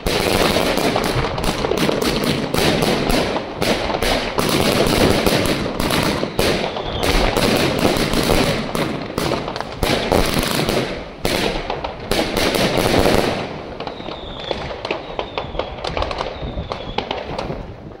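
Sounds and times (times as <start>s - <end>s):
crackling fireworks strobes: 0.0s - 18.0s
fireworks launching and bursting: 0.0s - 18.0s
fireworks pops and crackles: 0.0s - 18.0s.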